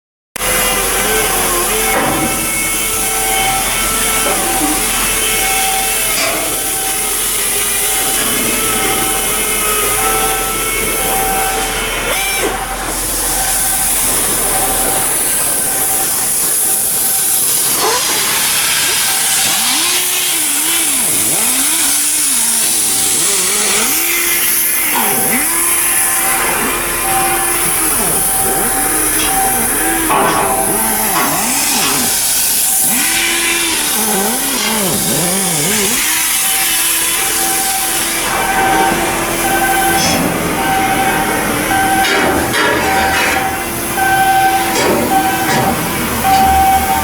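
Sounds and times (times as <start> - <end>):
motor whirring: 0.4 - 47.0
power tools hissing: 0.4 - 47.0
high warning beep: 1.1 - 47.0.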